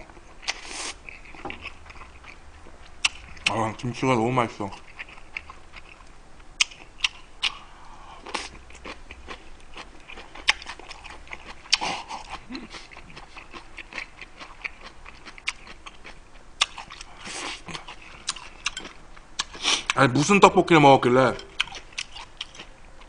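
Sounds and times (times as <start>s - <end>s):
person chewing crunchy food: 0.2s - 3.6s, 4.7s - 20.0s, 21.5s - 22.8s.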